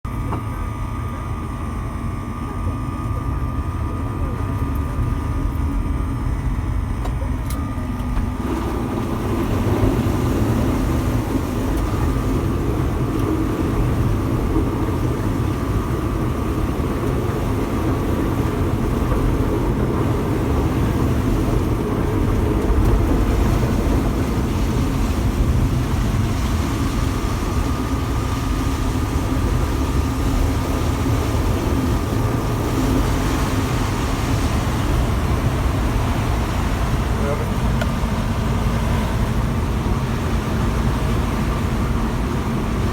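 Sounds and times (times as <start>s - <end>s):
vehicle engine rumbling: 0.1s - 42.9s.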